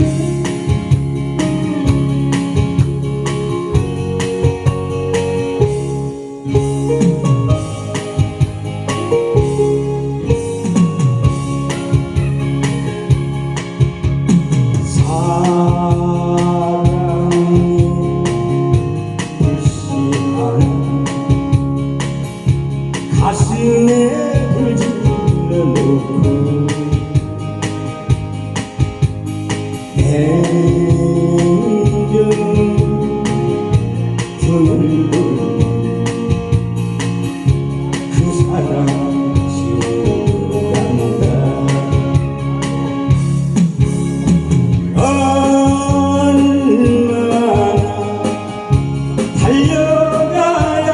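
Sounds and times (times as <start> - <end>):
gliding lead melody: 0.0 - 50.9
organ-like keyboard chords: 0.0 - 50.9.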